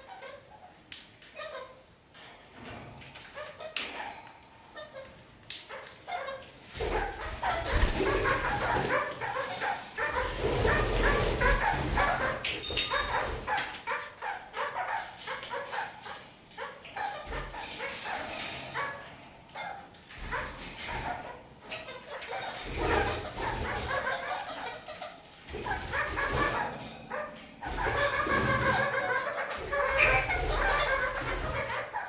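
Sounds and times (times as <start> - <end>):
parakeets chattering: 4.8 - 32.0.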